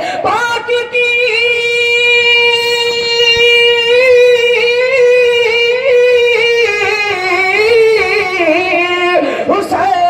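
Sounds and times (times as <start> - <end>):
person singing a long high note: 0.0 - 10.0.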